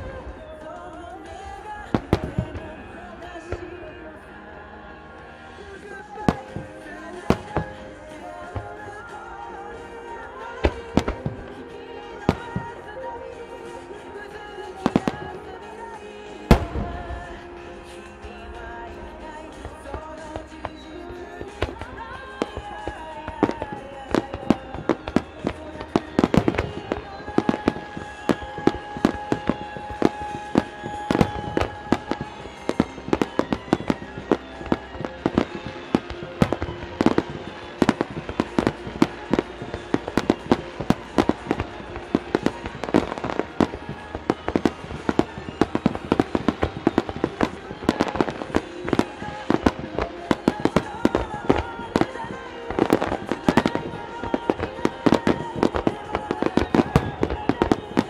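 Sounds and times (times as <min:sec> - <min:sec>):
music playing: 0:00.0 - 0:58.0
firework shells bursting: 0:05.3 - 0:58.0.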